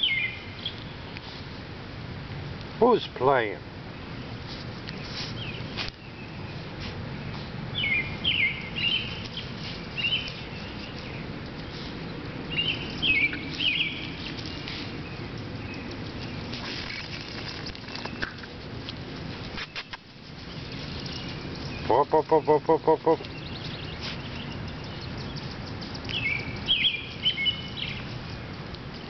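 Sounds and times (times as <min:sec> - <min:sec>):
songbird chirping: 0:00.0 - 0:01.4, 0:02.6 - 0:29.0
low outdoor background: 0:00.0 - 0:29.0
rustling in grass: 0:04.0 - 0:22.0, 0:23.2 - 0:29.0.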